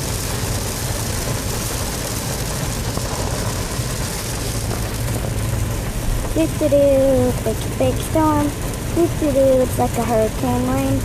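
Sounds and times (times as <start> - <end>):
car engine running low: 0.0 - 11.0
heavy rain on car: 0.0 - 11.0.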